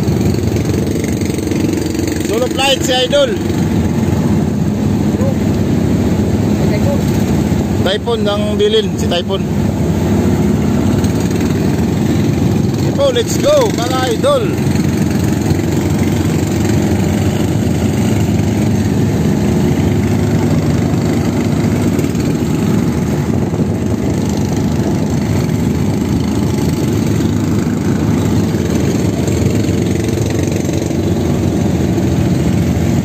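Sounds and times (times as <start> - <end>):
boat engine rumbling: 0.0 - 33.0.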